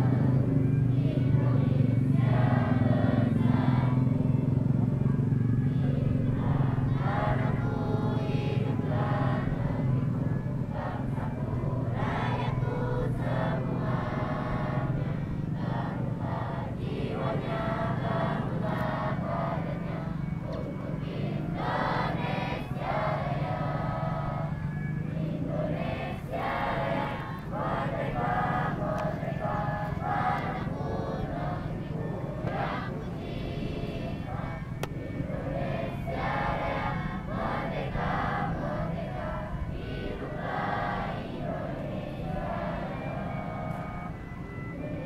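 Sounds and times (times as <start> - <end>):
children singing in unison: 0.0 - 45.0.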